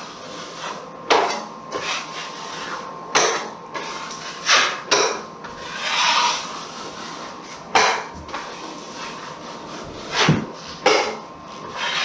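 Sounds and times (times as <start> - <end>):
taping knife scraping metal pan: 0.4 - 12.0.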